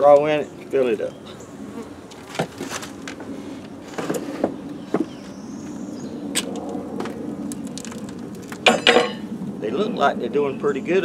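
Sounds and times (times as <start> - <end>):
bees humming: 0.3 - 10.8.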